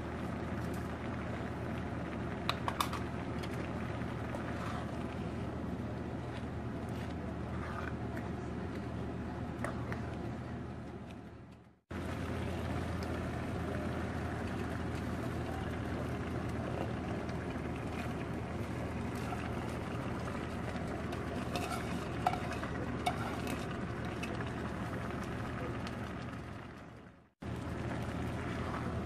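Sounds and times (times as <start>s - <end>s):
food simmering in skillet: 0.0s - 6.4s, 11.9s - 29.0s.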